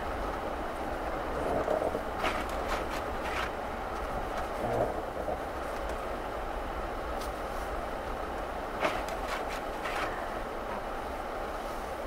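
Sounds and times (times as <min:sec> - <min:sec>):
tyre and road rumble: 0:00.0 - 0:12.0.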